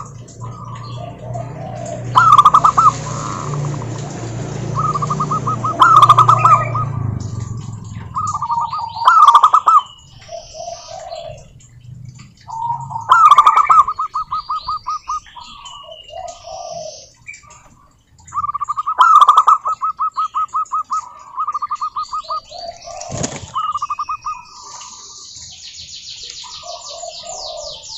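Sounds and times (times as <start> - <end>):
doves cooing: 0.0 - 25.2, 26.4 - 27.9
small birds chirping: 0.0 - 27.9.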